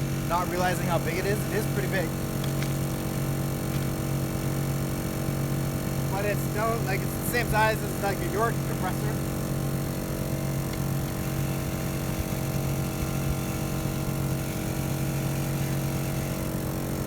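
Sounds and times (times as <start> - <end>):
portable air compressor humming: 0.0 - 17.0.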